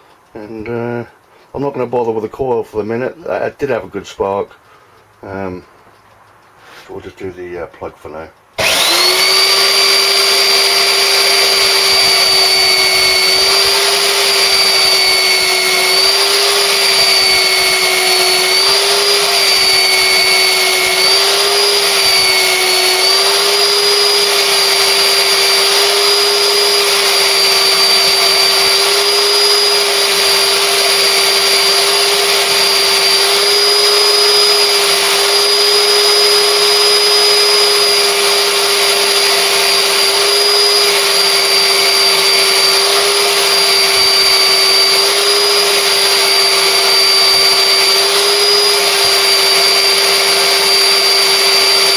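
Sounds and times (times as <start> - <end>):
wire wheel whining: 8.6 - 51.9.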